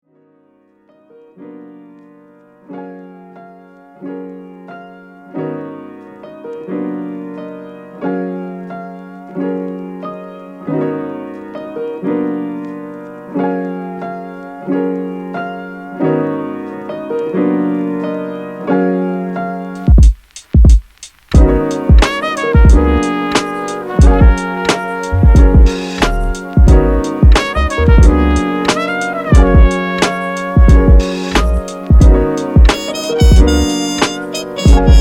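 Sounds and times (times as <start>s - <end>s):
soft piano chords: 0.1s - 19.9s, 21.4s - 35.0s.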